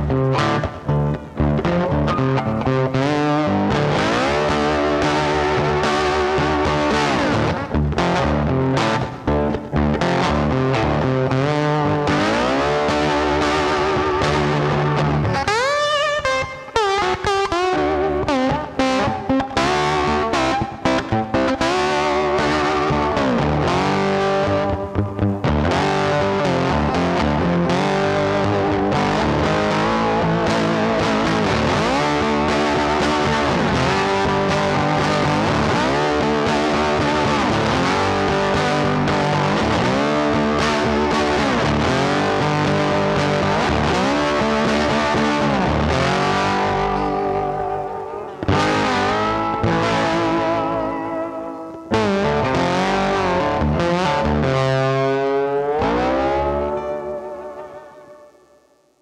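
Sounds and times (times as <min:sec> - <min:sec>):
rock music with electric guitar: 0:00.0 - 0:58.8.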